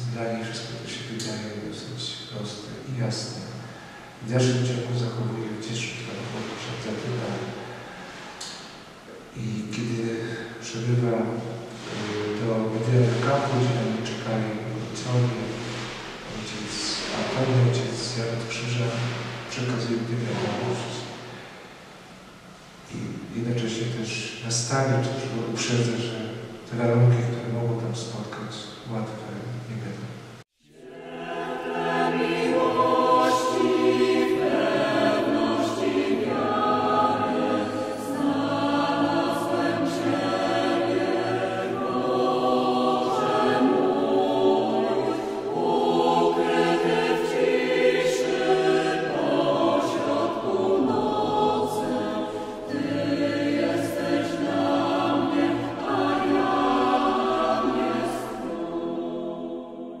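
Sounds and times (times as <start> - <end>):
small choir singing chords: 0.0 - 29.1, 30.6 - 60.0.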